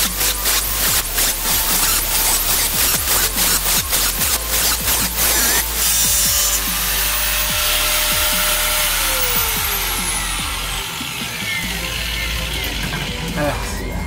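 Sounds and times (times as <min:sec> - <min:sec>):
angle grinder cutting metal: 0:00.0 - 0:14.0
music with steady beat: 0:00.0 - 0:14.0.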